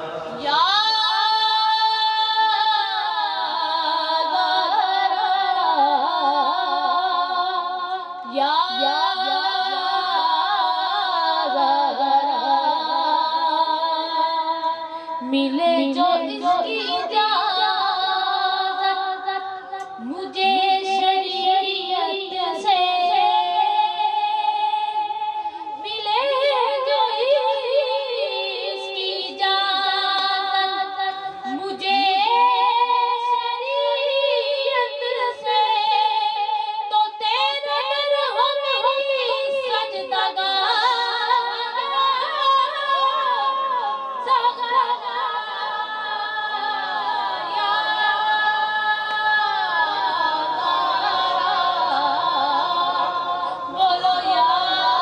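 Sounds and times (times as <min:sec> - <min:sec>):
boy singing devotional song: 0:00.0 - 0:55.0.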